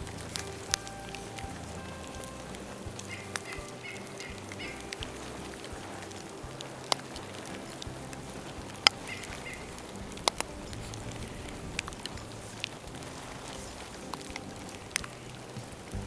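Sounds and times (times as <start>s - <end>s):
bonfire crackling: 0.0s - 16.0s.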